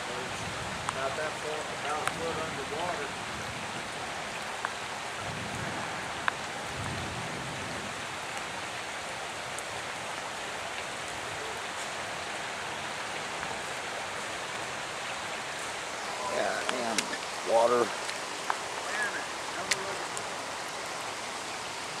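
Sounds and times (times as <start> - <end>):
rain on water and ground: 0.0 - 22.0.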